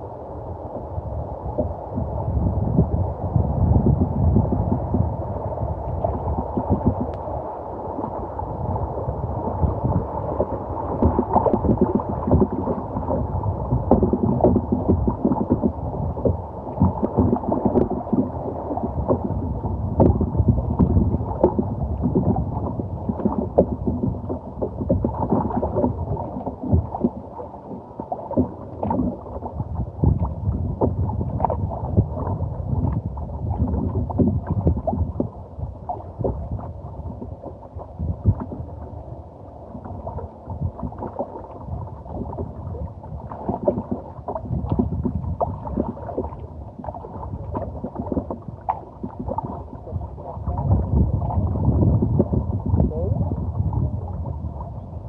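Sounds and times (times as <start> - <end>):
water sloshing and splashing: 5.9 - 54.8.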